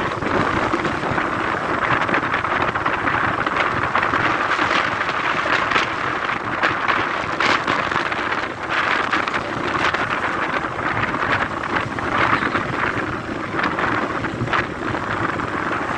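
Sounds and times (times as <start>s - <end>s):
road noise: 0.0s - 15.9s
wind buffeting microphone: 0.0s - 15.9s.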